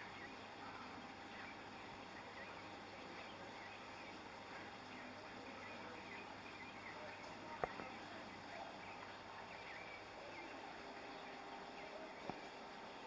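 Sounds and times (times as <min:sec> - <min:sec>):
murmur of voices: 0:02.5 - 0:13.0.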